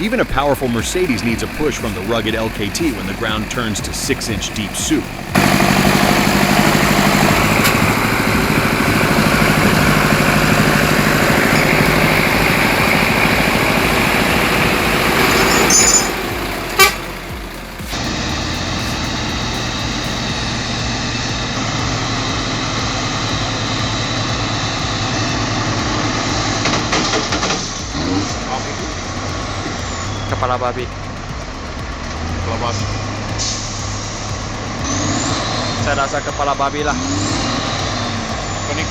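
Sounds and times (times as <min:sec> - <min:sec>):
heavy truck engines under load: 0:00.0 - 0:38.9.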